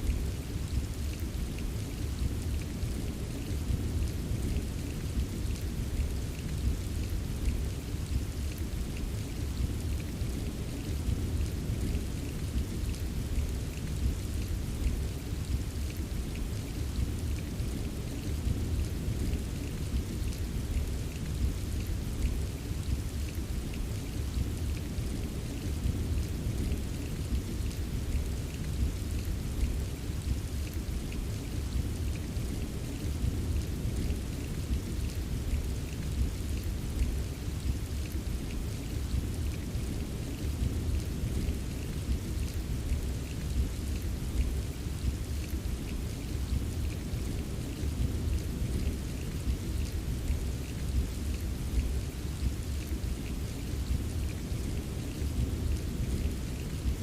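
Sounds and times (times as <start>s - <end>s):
rain patter: 0.0s - 57.0s.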